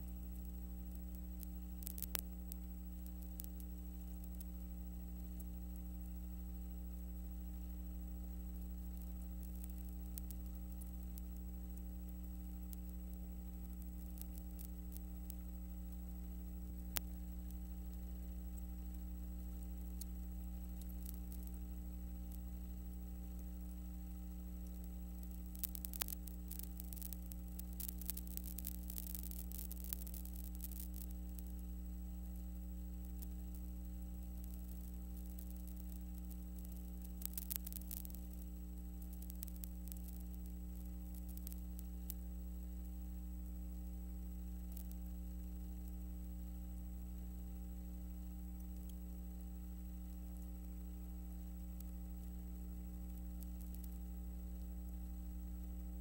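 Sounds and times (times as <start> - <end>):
crackling clicks: 0.0 - 56.0
electrical hum with hiss: 0.0 - 56.0.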